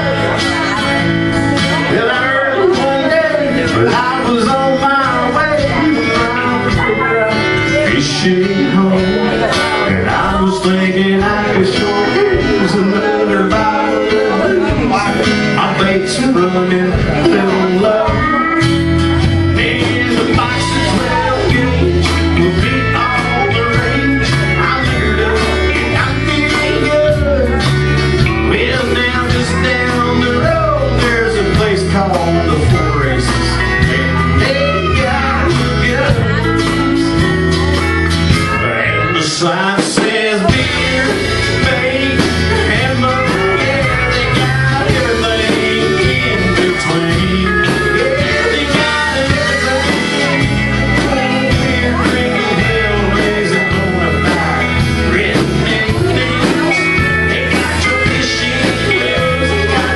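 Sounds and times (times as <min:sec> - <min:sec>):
country band playing: 0:00.0 - 0:59.9
steel guitar bending notes: 0:00.0 - 0:59.9.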